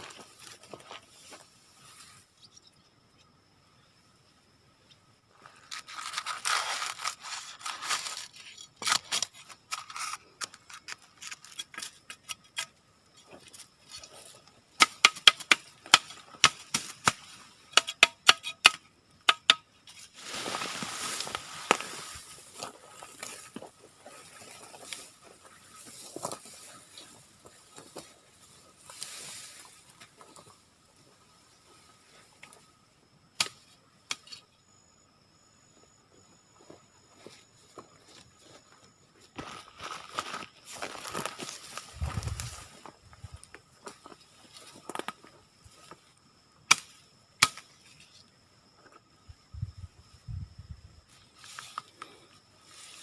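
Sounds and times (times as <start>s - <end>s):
rustling leaves and twigs: 0.0s - 2.8s, 4.8s - 18.6s, 19.3s - 34.5s, 36.6s - 53.0s.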